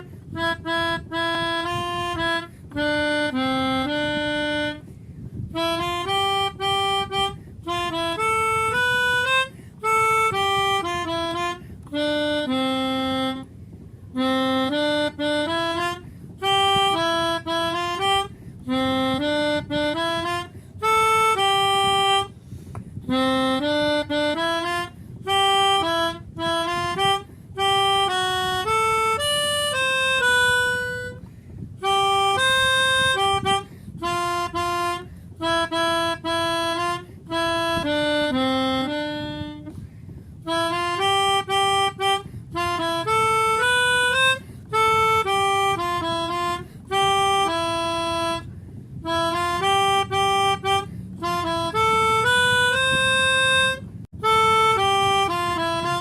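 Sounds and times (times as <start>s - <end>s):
instrumental melody: 0.0s - 56.0s.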